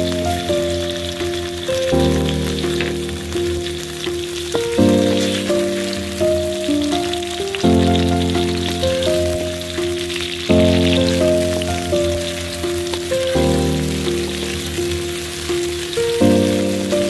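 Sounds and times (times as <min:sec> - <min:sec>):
background music: 0:00.0 - 0:17.0
vegetables sizzling in hot oil: 0:00.0 - 0:17.0.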